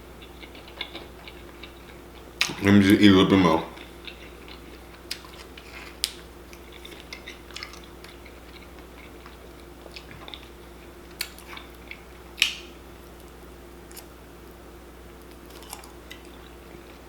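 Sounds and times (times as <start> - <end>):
person chewing food: 0.1 - 17.0.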